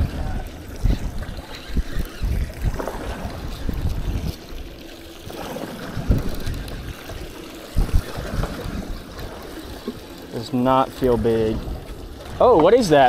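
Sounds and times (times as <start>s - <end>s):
water washing against hull: 0.0s - 13.0s
wind buffeting microphone: 0.0s - 13.0s.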